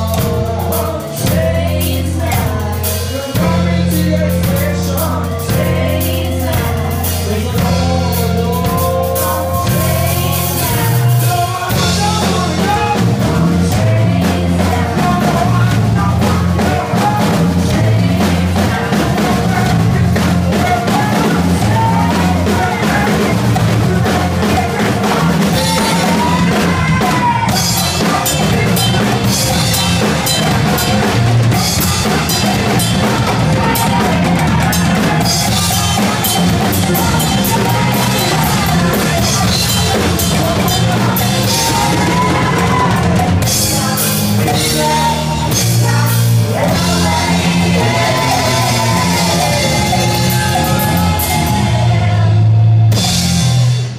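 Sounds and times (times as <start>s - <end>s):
conga drums: 0.0s - 53.9s
live rock band playing: 0.0s - 53.9s.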